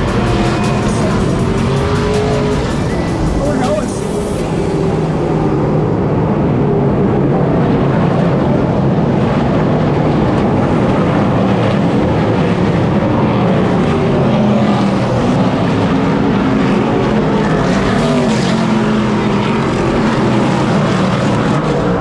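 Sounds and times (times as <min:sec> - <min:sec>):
racing engines roaring: 0:00.0 - 0:22.0.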